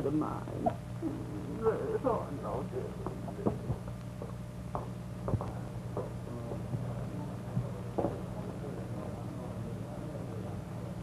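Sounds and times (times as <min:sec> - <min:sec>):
film soundtrack hum and hiss: 0:00.0 - 0:11.0.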